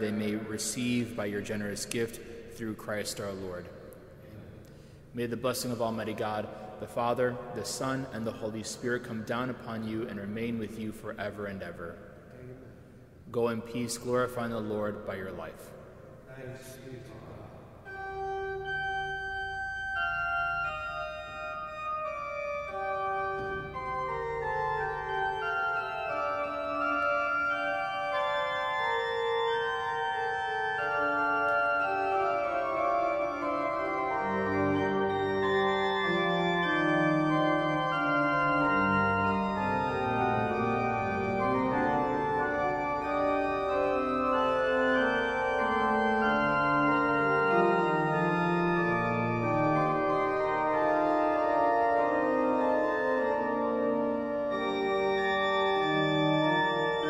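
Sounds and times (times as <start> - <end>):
church organ playing: 0.0 - 12.2, 12.8 - 57.0.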